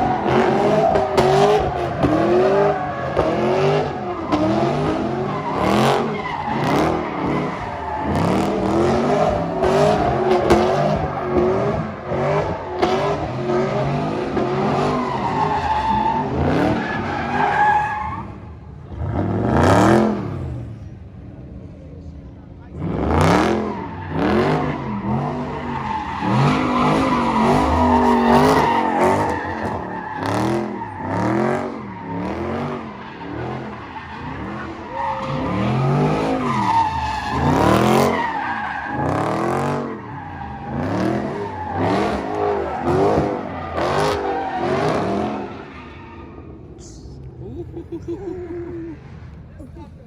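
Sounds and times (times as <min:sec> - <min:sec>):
car engine revving hard: 0:00.0 - 0:17.4, 0:18.2 - 0:20.9, 0:22.7 - 0:45.6
tires skidding: 0:00.0 - 0:21.6, 0:22.5 - 0:49.6.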